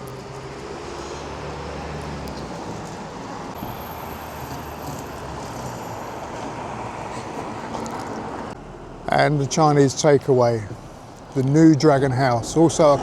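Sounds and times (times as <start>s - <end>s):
road traffic rushing past: 0.0s - 13.0s.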